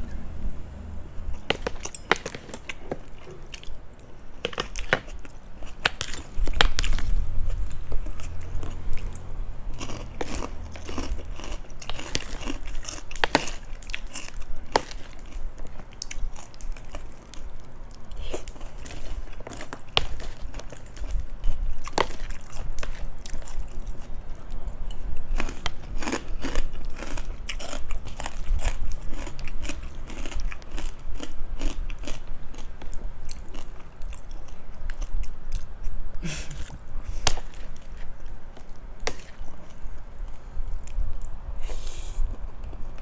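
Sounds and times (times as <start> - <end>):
person chewing crunchy food: 1.3 - 43.0.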